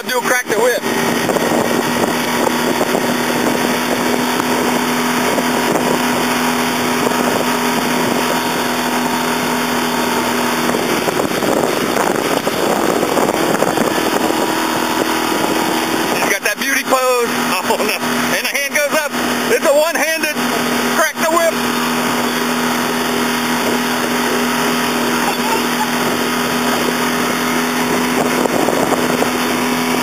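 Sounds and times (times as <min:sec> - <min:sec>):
outboard motor drone: 0:00.0 - 0:30.0
wind on microphone: 0:00.0 - 0:30.0.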